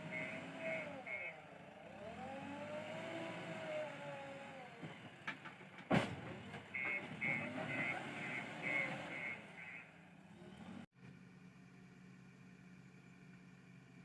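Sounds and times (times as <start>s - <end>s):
backhoe diesel engine working: 0.0s - 14.0s.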